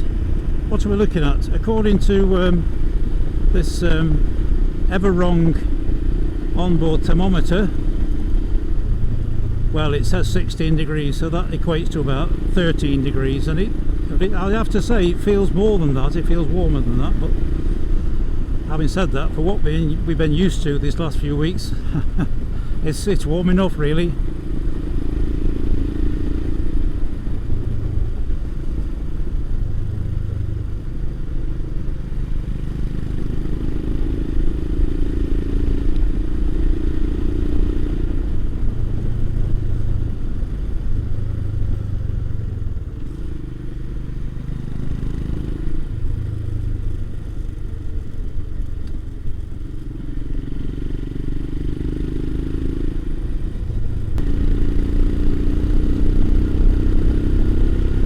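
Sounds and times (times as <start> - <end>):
low rumble of riding noise: 0.0 - 58.0
motorcycle engine running: 0.0 - 58.0.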